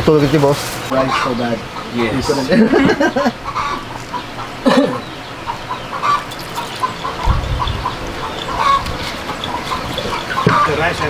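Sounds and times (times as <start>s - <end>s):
chickens clucking: 0.1s - 11.0s.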